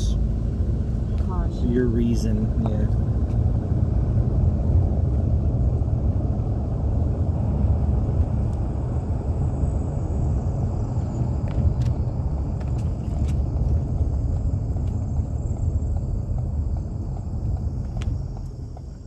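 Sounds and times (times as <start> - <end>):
tyres and engine rumble: 0.0 - 19.0.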